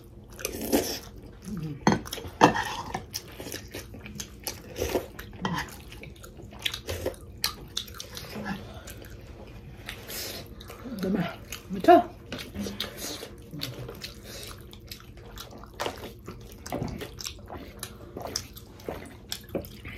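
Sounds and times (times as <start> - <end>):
chewing: 0.0 - 19.9.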